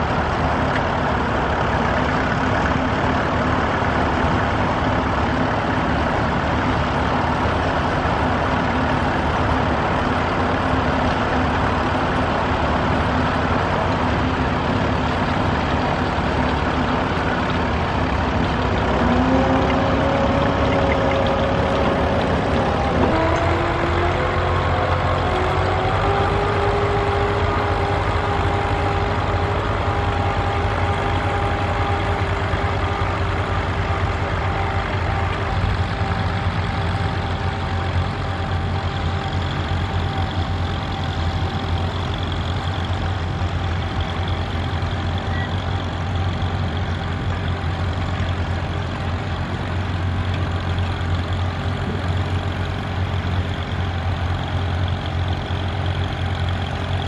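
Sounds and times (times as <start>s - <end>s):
tractor engines droning: 0.0s - 57.0s.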